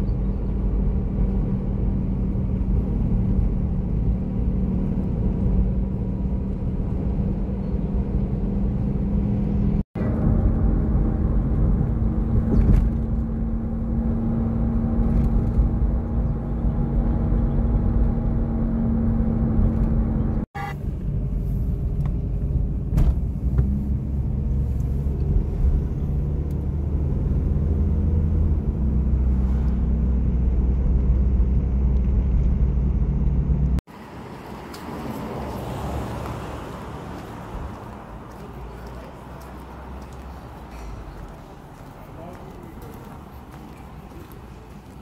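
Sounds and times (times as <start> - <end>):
car engine drone: 0.0 - 45.0
outdoor street ambience: 0.0 - 45.0
tyre and road rumble: 0.0 - 45.0.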